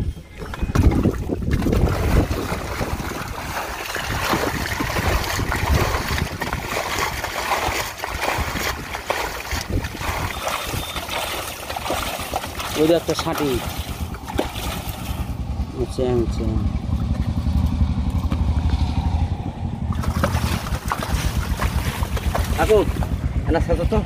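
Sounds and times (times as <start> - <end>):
wind on microphone: 0.0 - 24.0
muddy water sloshing: 0.2 - 24.0.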